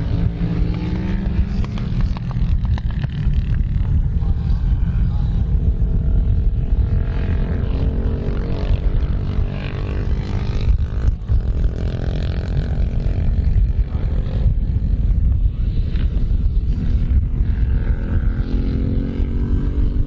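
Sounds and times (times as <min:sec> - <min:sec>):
heavy low rumble: 0:00.0 - 0:20.0
motorcycle engine revving: 0:00.0 - 0:20.0.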